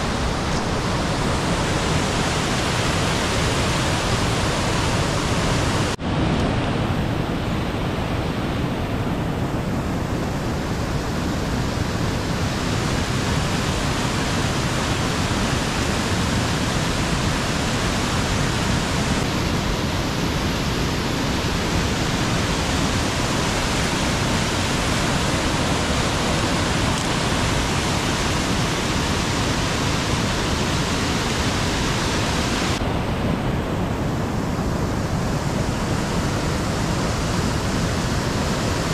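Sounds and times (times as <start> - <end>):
water rushing down rocky cascade: 0.0 - 38.9.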